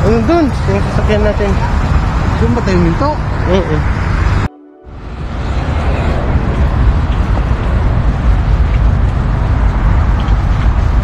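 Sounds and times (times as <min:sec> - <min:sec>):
road traffic: 0:00.0 - 0:11.0
wind buffeting microphone: 0:00.0 - 0:11.0.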